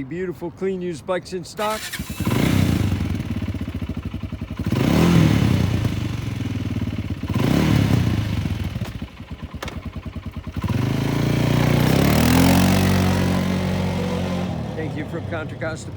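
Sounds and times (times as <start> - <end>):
atv engine idling and revving: 1.6 - 15.9.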